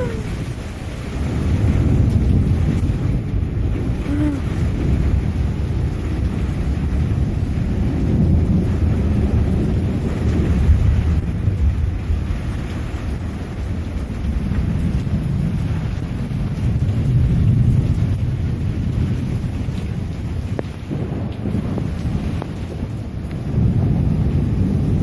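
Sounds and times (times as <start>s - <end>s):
rain: 0.0s - 25.0s
wind: 0.0s - 25.0s.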